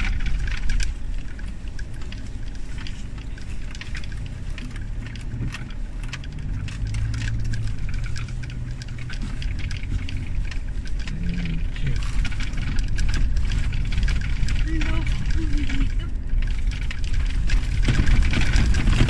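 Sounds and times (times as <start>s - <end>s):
clicks and rattles of jolting truck: 0.0s - 19.0s
truck engine and road hum: 0.0s - 19.0s.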